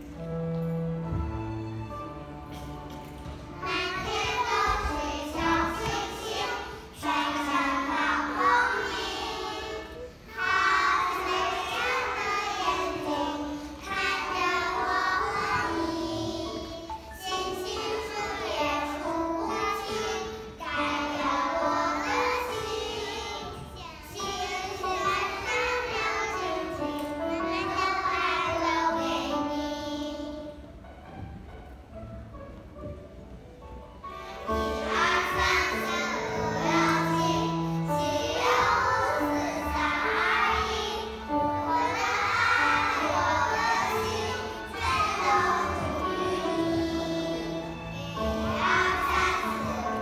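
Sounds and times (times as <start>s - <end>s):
young children singing: 2.4s - 30.8s, 33.9s - 50.0s.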